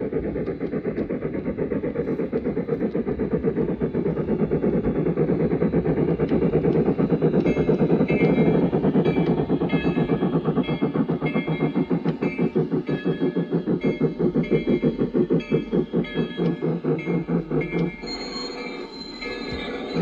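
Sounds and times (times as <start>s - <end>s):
model steam locomotive chuffing: 0.0s - 20.0s.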